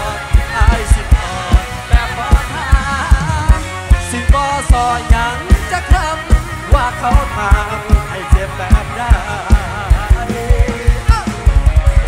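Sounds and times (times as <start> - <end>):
bending lead melody: 0.0 - 12.0
electric guitar: 0.0 - 12.0.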